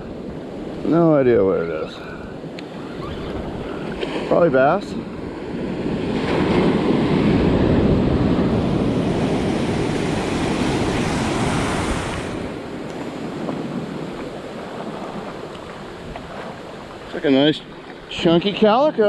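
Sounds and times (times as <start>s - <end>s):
ocean surf washing in: 0.0s - 19.0s
wind buffeting microphone: 0.0s - 19.0s.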